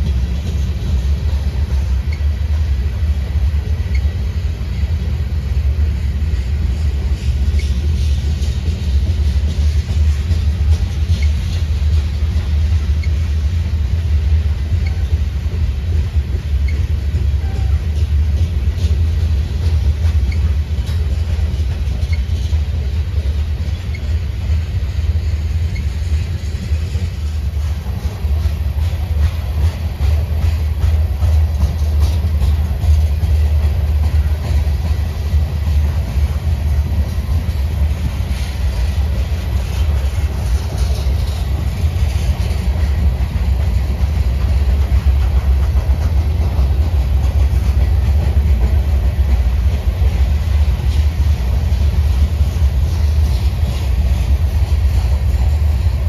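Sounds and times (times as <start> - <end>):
freight train rolling rumble: 0.0 - 56.0.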